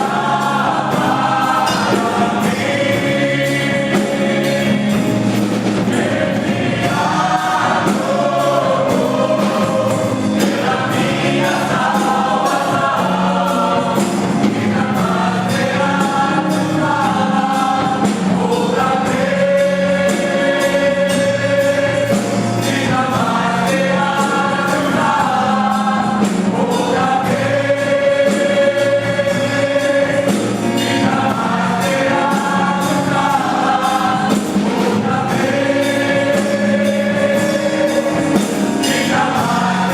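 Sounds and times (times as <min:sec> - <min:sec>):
choir singing: 0:00.0 - 0:39.9
instrumental accompaniment with beat: 0:00.0 - 0:39.9.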